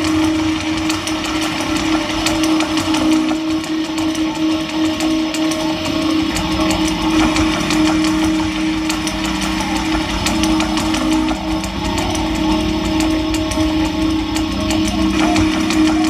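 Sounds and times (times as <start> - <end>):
crackling noise texture with clicks: 0.0 - 16.0
low electronic drone: 0.0 - 16.0.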